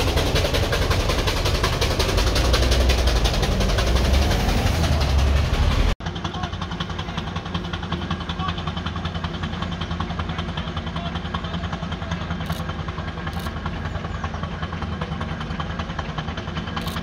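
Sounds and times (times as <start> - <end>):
street sound: 0.0 - 17.0
vehicle engine running: 0.0 - 17.0.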